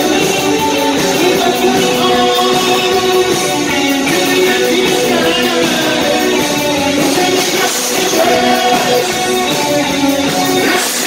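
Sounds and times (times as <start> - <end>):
drums: 0.0 - 11.0
electric guitars: 0.0 - 11.0
keyboard synthesizer: 0.0 - 11.0
man singing: 0.0 - 11.0.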